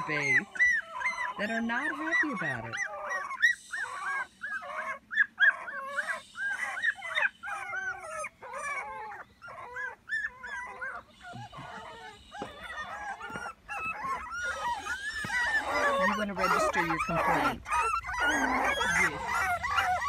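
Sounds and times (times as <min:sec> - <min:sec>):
puppies whining and yelping: 0:00.0 - 0:20.0.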